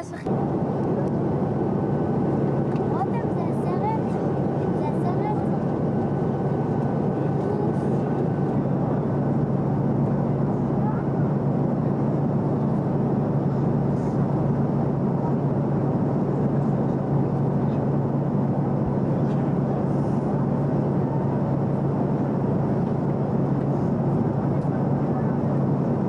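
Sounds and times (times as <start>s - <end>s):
engine and airflow rushing: 0.0s - 26.0s
steady low hum: 0.0s - 26.0s.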